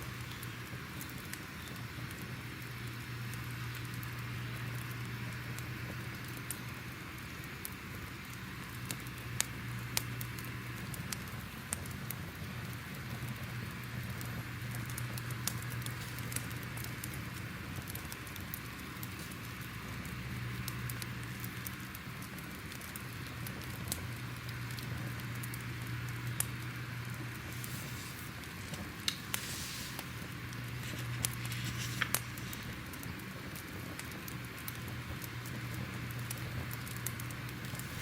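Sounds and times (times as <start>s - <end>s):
fire crackling: 0.0s - 38.0s.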